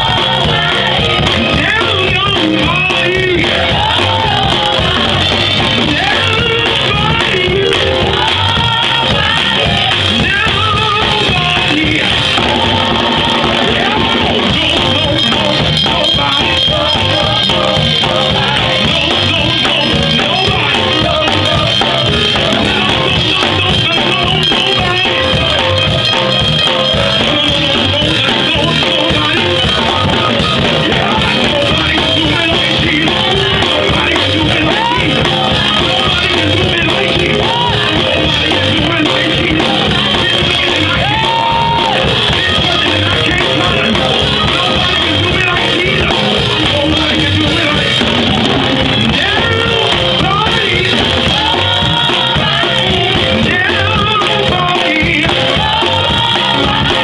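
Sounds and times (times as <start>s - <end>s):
amplified instrumental accompaniment: 0.0s - 57.0s.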